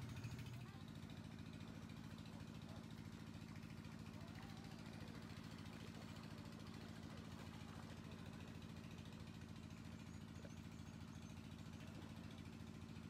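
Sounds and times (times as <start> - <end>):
idling engine pulsing hum: 0.0 - 13.0.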